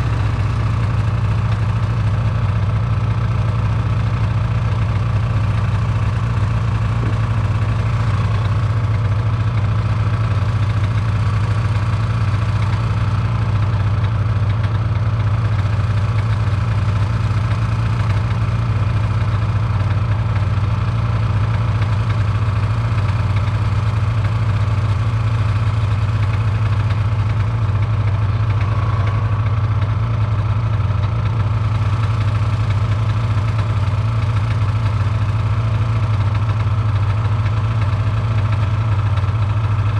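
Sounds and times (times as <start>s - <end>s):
snowmobile engine droning: 0.0s - 39.9s.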